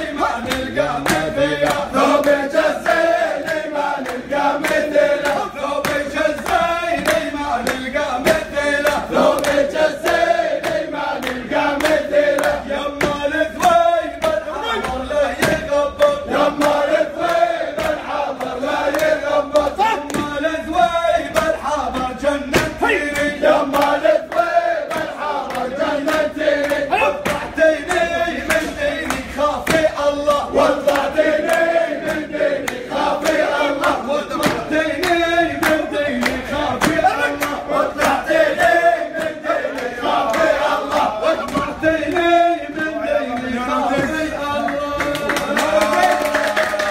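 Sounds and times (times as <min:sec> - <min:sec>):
men singing a chant: 0:00.0 - 0:46.9
rhythmic handclaps: 0:00.0 - 0:46.9.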